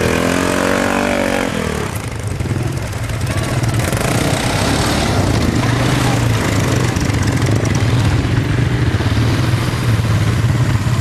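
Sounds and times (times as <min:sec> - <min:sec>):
quad bike engines idling: 0:00.0 - 0:11.0.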